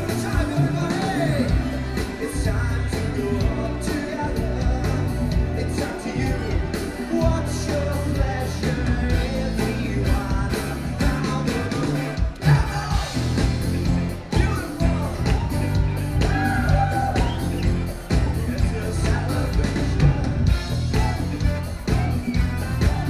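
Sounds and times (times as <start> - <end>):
person singing: 0.0 - 13.4, 14.3 - 23.0
band playing a song: 0.0 - 23.0
heavy bass: 0.0 - 23.0
steady drum beat: 0.0 - 23.0.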